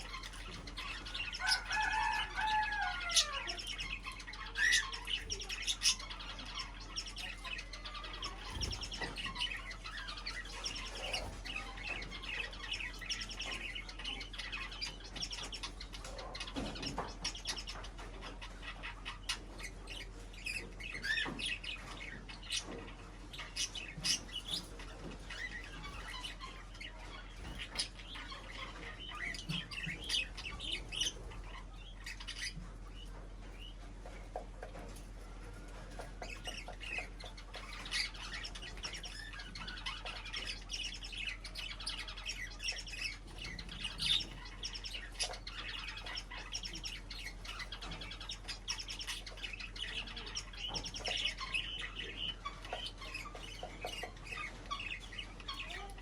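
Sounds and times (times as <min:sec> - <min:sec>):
cage birds chirping: 0:00.0 - 0:56.0.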